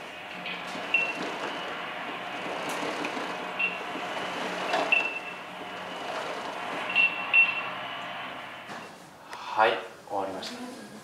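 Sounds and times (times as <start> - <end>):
rumbling and rattling: 0.0 - 8.8.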